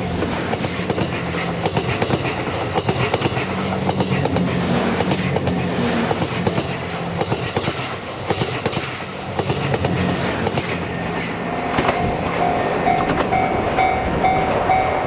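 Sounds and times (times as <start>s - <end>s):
train low hum: 0.0s - 15.0s
train wheels clicking over rail joints: 0.1s - 15.0s.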